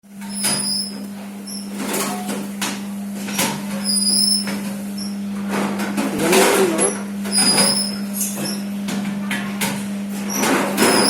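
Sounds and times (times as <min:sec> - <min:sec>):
dishwasher humming and hissing: 0:00.1 - 0:11.0.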